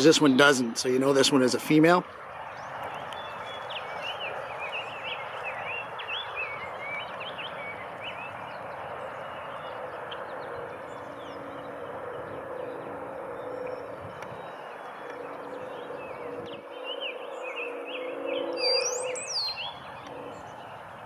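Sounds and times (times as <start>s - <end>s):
outdoor background rush: 0.0s - 21.0s
songbird chirping: 0.0s - 21.0s.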